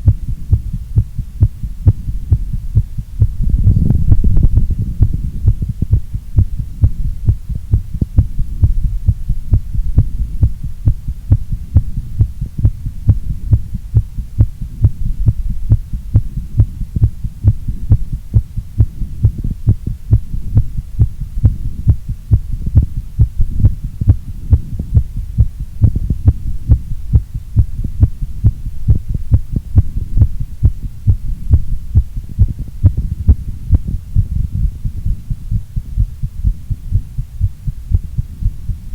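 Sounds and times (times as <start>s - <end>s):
fast heartbeat: 0.0s - 38.9s
steady low hum: 0.0s - 38.9s.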